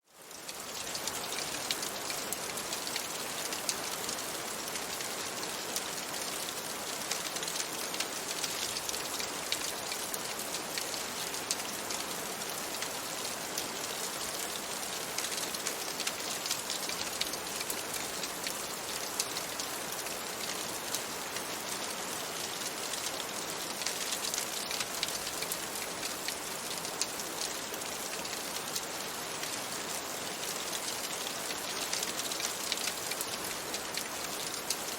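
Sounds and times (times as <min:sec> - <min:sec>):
rain pattering on a window: 0:00.0 - 0:34.9.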